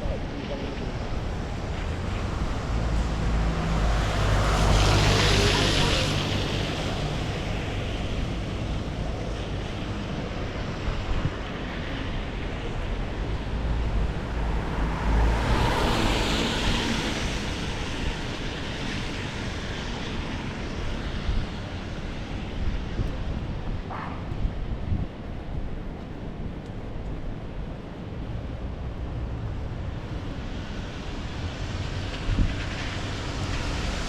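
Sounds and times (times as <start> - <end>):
traffic: 0.0 - 34.0
wind buffeting microphone: 0.0 - 34.0.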